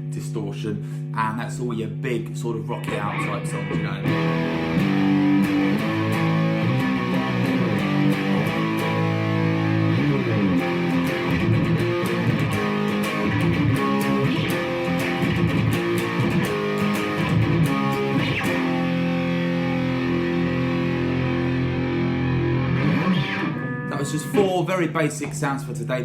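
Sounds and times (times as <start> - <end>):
distorted electric guitar riff: 0.0 - 26.0.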